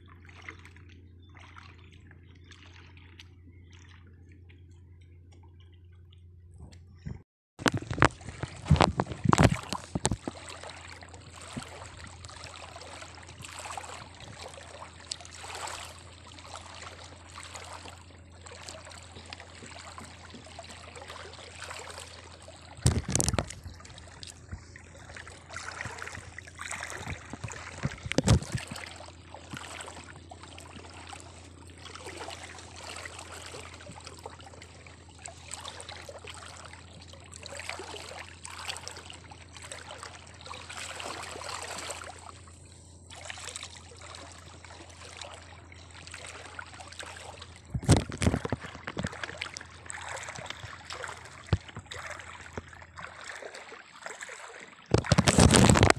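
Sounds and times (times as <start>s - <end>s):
water splashing and trickling: 0.0s - 7.0s, 7.6s - 55.9s.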